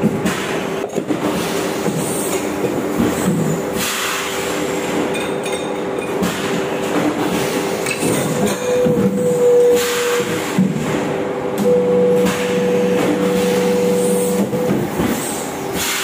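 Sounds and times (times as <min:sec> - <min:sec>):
machinery running with hum: 0:00.0 - 0:16.0.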